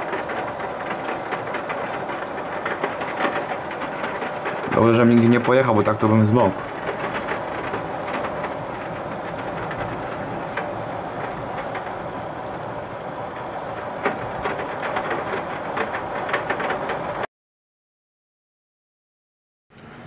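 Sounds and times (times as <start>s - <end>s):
hailstones ticking: 0.0s - 17.3s
heavy rain: 0.0s - 17.3s.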